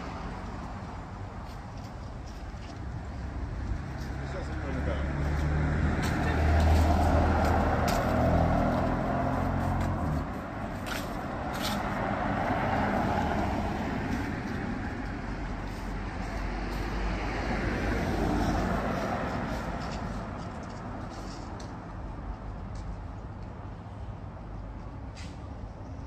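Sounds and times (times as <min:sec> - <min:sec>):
cars passing: 0:00.0 - 0:26.0
vehicle engine humming: 0:00.0 - 0:26.0.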